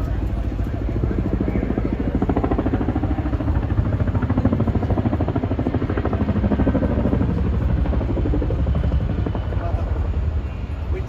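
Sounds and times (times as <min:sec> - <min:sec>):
helicopter engine noise: 0:00.0 - 0:11.0
helicopter rotor beat: 0:00.0 - 0:11.0.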